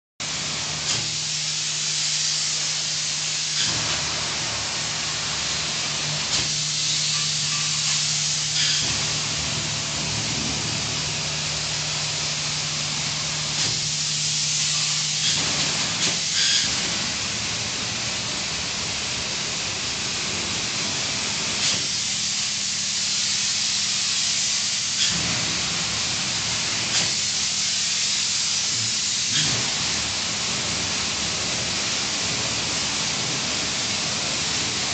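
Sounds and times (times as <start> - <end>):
spray-foam gun hissing: 0.2 - 34.9.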